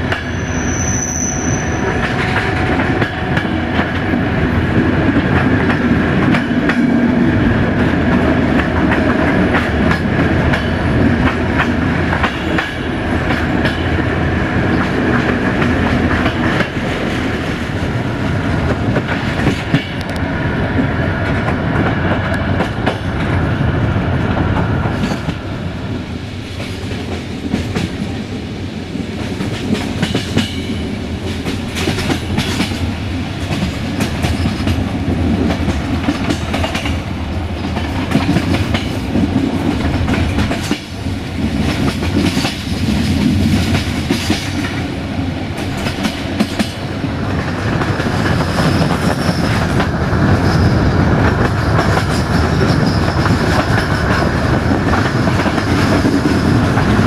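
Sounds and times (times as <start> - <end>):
clickety-clack over rail joints: 0.0 - 25.8, 26.4 - 28.3, 29.0 - 57.0
train wheels rumbling on rails: 0.0 - 57.0.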